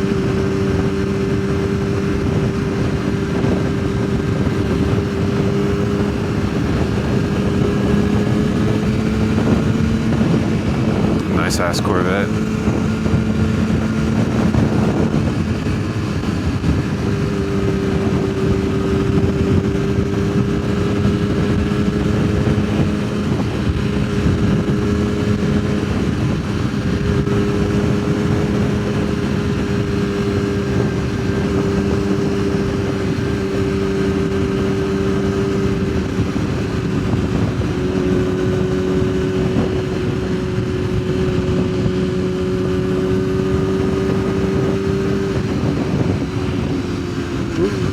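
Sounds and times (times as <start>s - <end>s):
motorcycle engine cruising: 0.0s - 47.9s
road noise: 0.0s - 47.9s
rushing wind: 0.0s - 47.9s.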